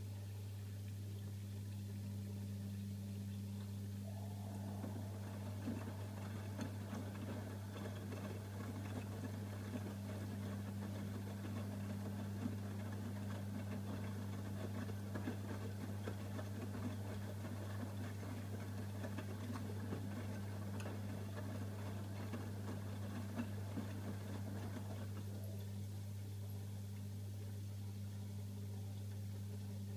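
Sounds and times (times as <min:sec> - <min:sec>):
steady low hum: 0:00.0 - 0:29.9
washing machine motor running: 0:00.8 - 0:29.9.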